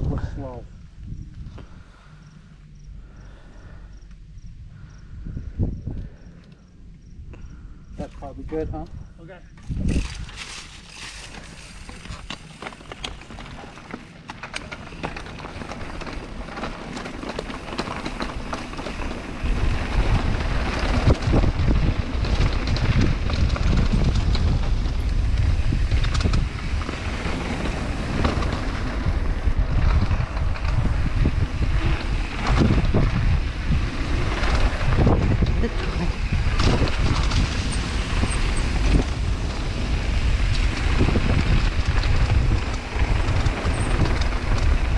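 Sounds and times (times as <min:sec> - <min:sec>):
wind rushing over microphone: 0:00.0 - 0:44.9
bike clicks and rattles: 0:08.5 - 0:44.9.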